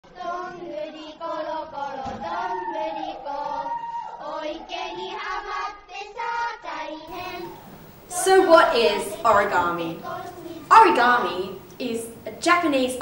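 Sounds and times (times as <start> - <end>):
child singing: 0.1 - 11.4.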